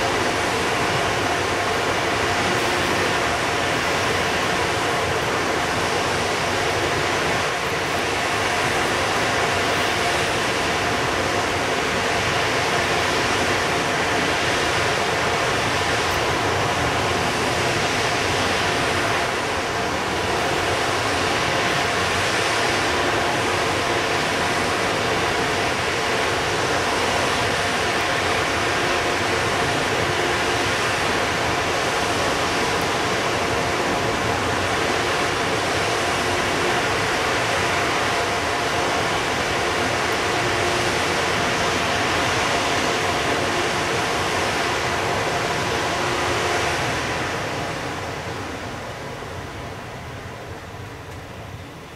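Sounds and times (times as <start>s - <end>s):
cooling blowers rushing with hum: 0.0s - 51.9s.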